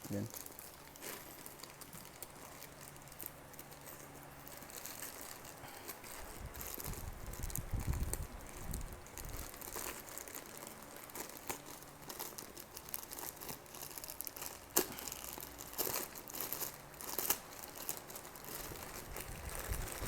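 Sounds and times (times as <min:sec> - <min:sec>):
packaging crinkling: 0:00.0 - 0:20.0.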